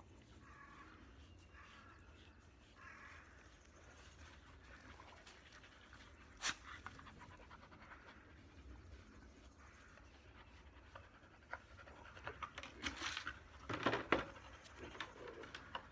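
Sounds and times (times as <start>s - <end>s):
dog panting: 0.0s - 15.9s.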